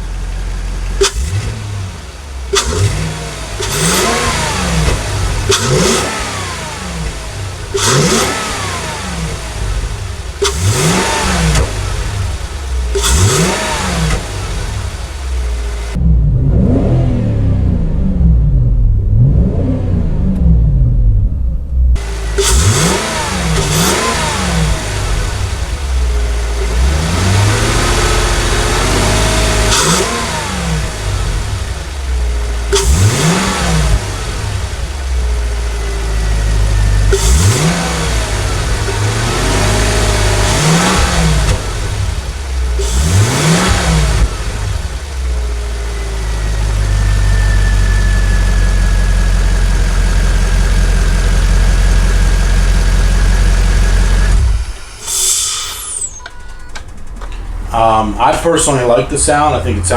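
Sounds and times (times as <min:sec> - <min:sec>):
car engine idling: 0:00.0 - 0:59.9
car engine revving: 0:00.0 - 0:59.9.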